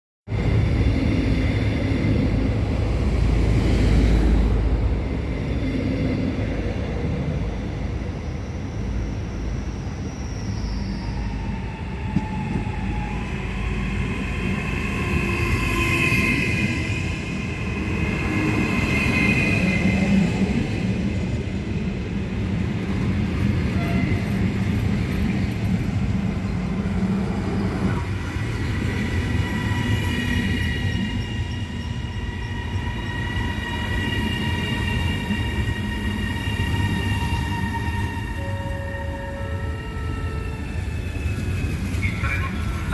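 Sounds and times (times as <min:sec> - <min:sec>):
electric train rumbling: 0:00.3 - 0:42.9.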